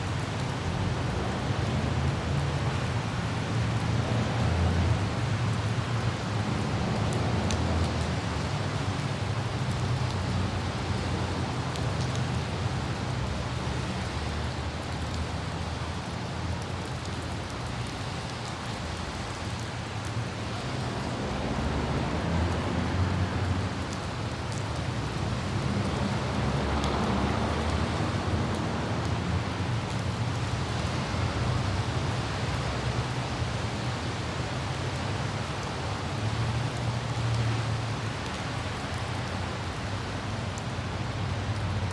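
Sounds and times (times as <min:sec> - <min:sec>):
car driving on a wet road: 0:00.0 - 0:41.9
light rain: 0:00.0 - 0:41.9
wind: 0:00.0 - 0:41.9.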